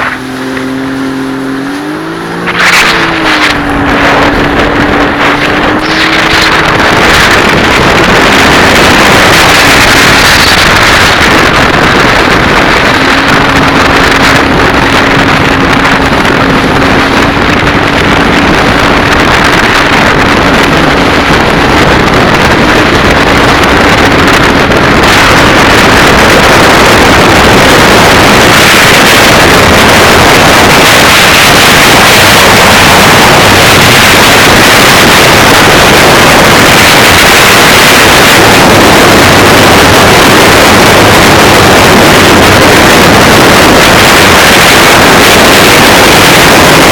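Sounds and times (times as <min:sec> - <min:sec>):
jetski engine: 0:00.0 - 0:46.9
water rushing: 0:00.0 - 0:46.9
wind noise on microphone: 0:00.0 - 0:46.9.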